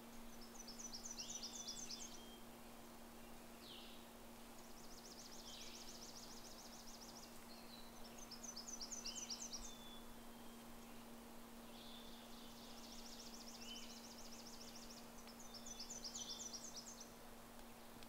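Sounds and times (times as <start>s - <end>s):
faint low hum: 0.0s - 18.0s
songbird song of falling notes: 0.0s - 18.0s.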